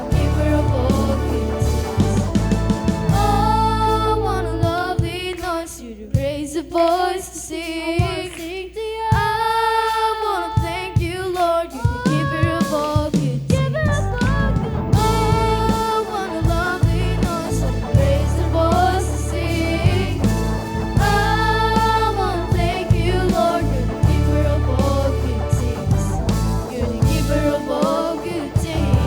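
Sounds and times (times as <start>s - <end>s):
backing track with bass and drums: 0.0s - 8.5s, 9.1s - 29.0s
children's choir singing: 0.0s - 13.5s, 15.0s - 29.0s.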